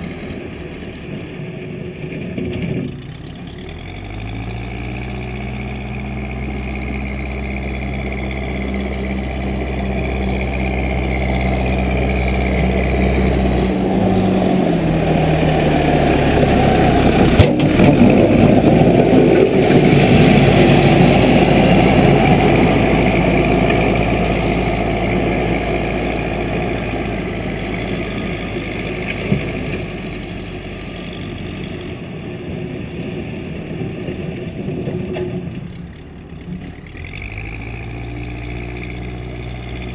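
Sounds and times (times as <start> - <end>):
backhoe engine running: 0.0 - 39.9
rough noisy rumble: 0.0 - 39.9.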